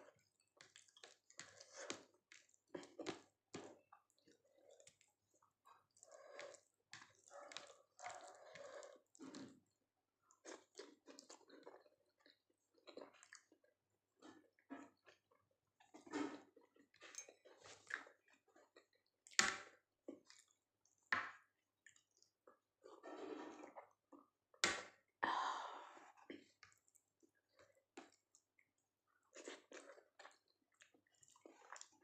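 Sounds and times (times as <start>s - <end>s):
chewing and wet mouth noises: 0.0s - 25.1s, 26.0s - 32.0s.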